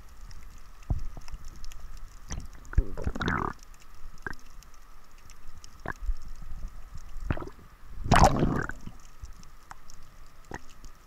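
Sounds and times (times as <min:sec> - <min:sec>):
underwater gurgling rush: 0:00.0 - 0:04.6, 0:05.4 - 0:10.8.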